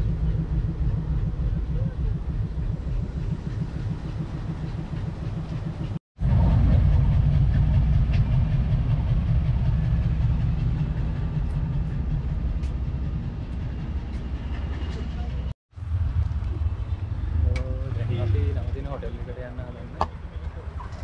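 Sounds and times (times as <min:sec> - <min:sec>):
diesel locomotive rumbling: 0:00.0 - 0:21.0.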